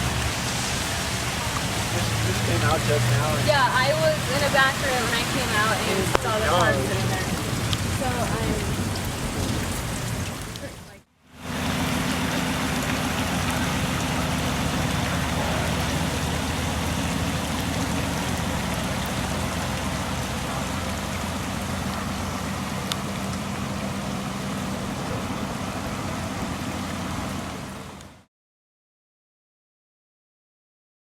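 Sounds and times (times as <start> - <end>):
heavy rain splashing: 0.0 - 28.3.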